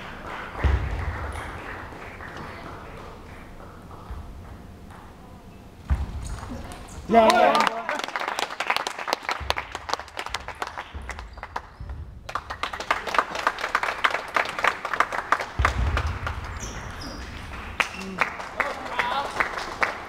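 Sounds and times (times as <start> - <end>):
spectators clapping: 0.0 - 4.1, 6.3 - 20.0.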